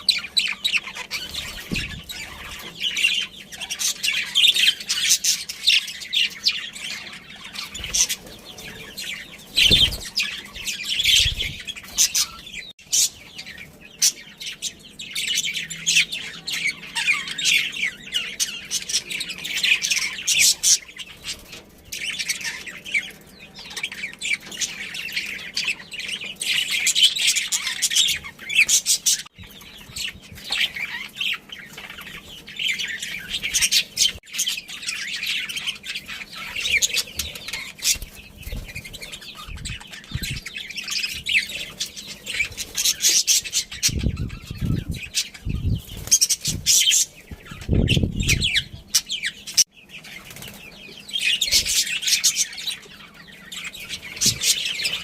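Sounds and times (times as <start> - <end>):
budgerigars chirping and chattering: 0.0 - 55.0.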